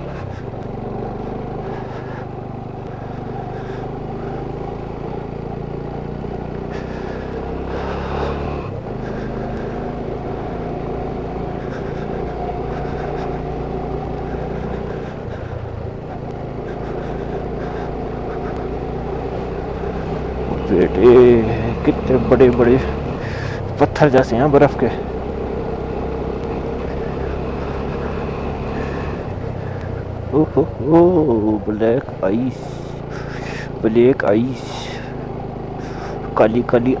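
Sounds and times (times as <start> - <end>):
motorcycle engine running: 0.0 - 37.0
wind and road noise: 0.0 - 37.0.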